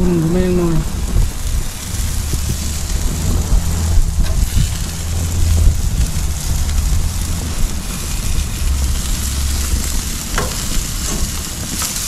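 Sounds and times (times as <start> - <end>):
meat sizzling on a grill: 0.0 - 12.0
steady low rumble: 0.0 - 12.0.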